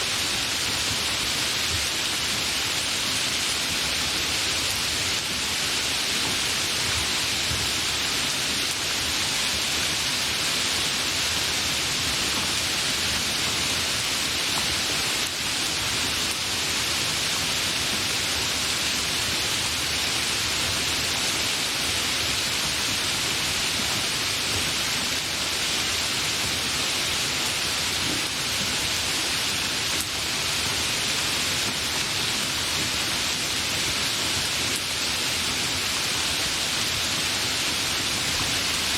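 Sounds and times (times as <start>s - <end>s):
rain hiss: 0.0s - 38.9s.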